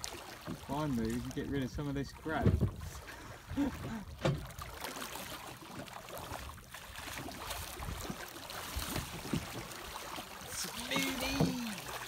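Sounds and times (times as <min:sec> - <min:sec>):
water splashing beside boat: 0:00.0 - 0:12.0.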